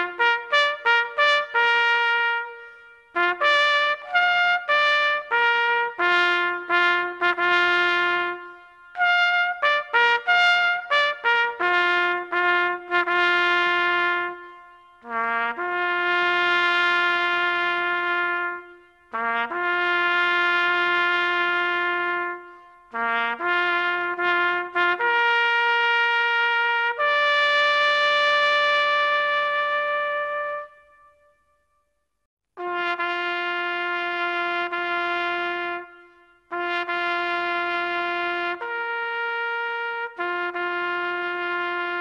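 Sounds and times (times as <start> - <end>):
solo trumpet call: 0.0 - 31.7, 32.6 - 42.0.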